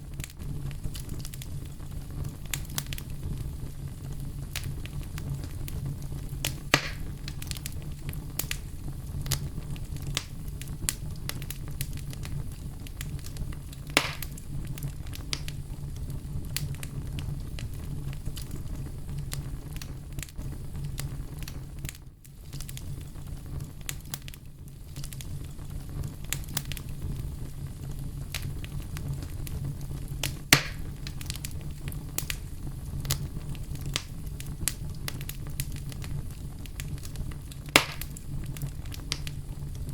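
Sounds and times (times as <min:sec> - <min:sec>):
campfire crackling: 0:00.0 - 0:39.9
loud fire pops: 0:00.0 - 0:39.9.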